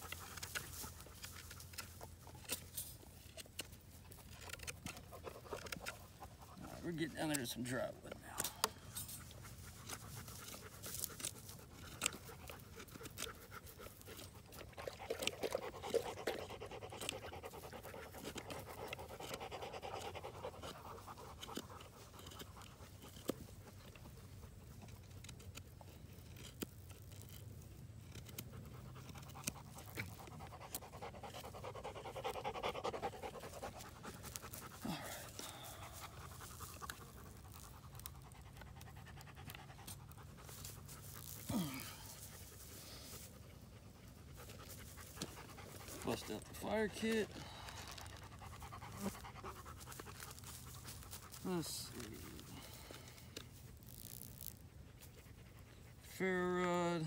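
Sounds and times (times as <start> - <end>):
dog panting: 0.0 - 53.7, 54.6 - 57.0
knife shaving dry wood: 0.0 - 57.0.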